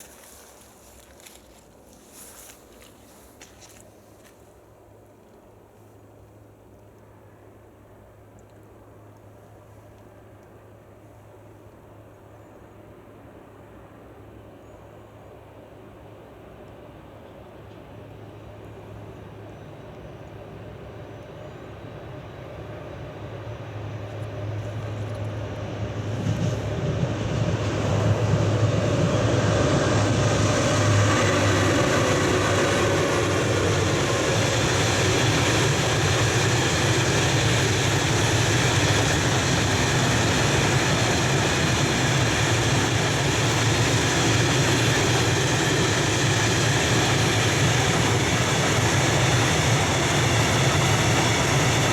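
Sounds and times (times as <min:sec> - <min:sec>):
freight train passing: 0:00.0 - 0:51.9.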